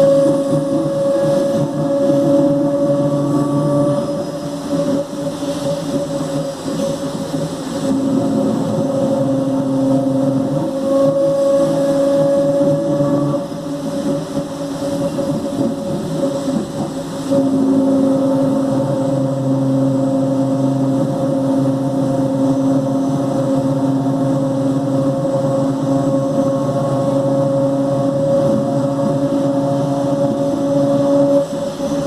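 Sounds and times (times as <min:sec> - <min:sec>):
electric train droning hum: 0:00.0 - 0:32.0.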